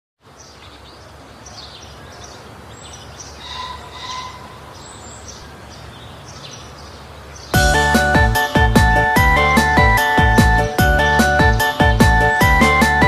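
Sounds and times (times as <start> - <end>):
birds chirping: 0.2 - 13.0
outdoor background noise: 0.2 - 13.0.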